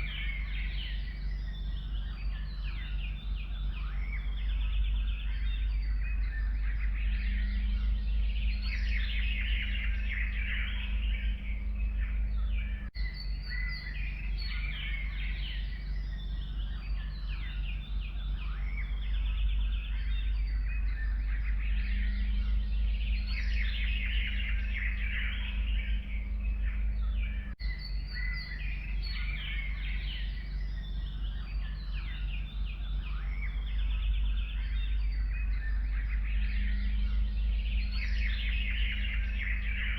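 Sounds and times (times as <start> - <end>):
forest birds singing: 0.0 - 39.9
steady low rumble: 0.0 - 39.9.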